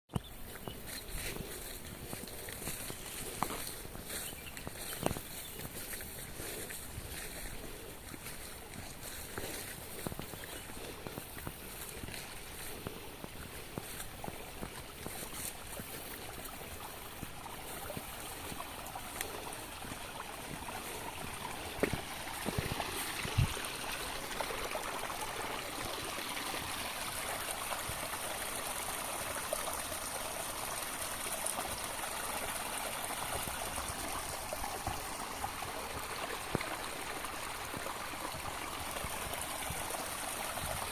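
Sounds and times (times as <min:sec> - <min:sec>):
water trickling and gurgling: 0:00.2 - 0:40.9.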